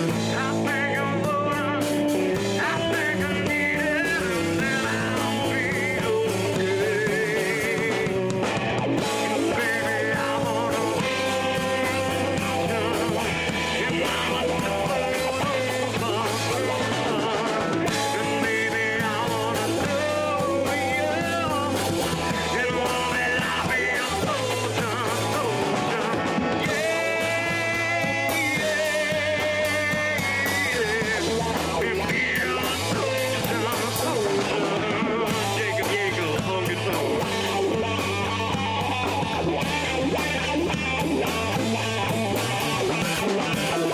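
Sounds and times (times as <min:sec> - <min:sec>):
bass line: 0:00.0 - 0:43.9
electric guitar: 0:00.0 - 0:43.9
person singing: 0:00.0 - 0:43.9.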